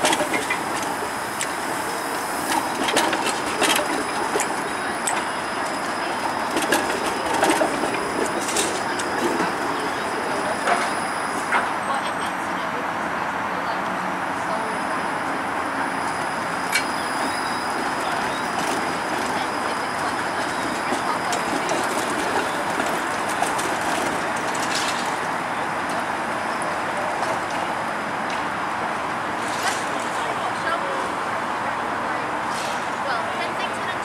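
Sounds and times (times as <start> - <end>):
streetcar rolling on rails: 0.0 - 34.0.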